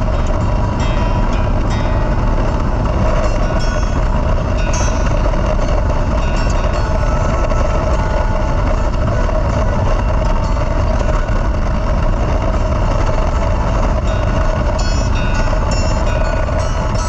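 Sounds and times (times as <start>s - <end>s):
constant hum: 0.0s - 17.0s
vehicle rumble: 0.0s - 17.0s.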